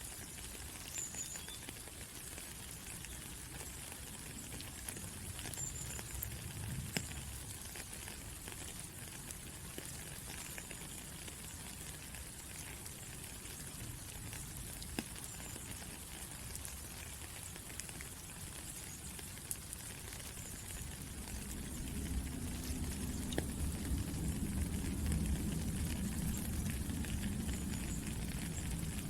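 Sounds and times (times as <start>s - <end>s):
raindrops tapping: 0.0s - 29.0s
steady rain falling: 0.0s - 29.0s.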